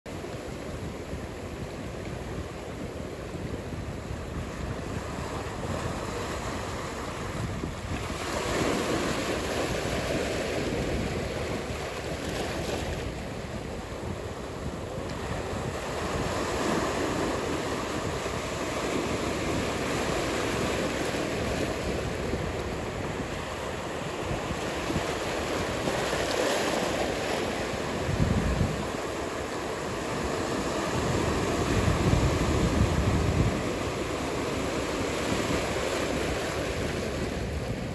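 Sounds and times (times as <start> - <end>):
waves breaking and washing in: 0.1 - 37.9
wind rumble on microphone: 0.1 - 37.9.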